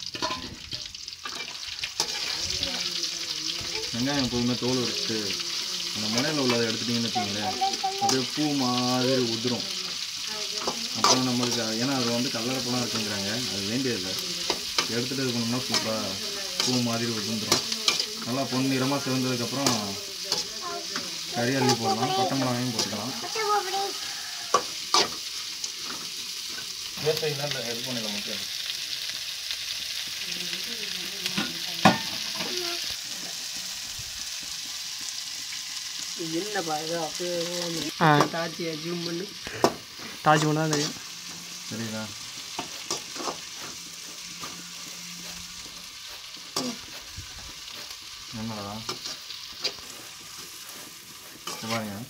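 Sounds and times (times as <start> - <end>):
onions sizzling in oil: 0.0 - 52.0.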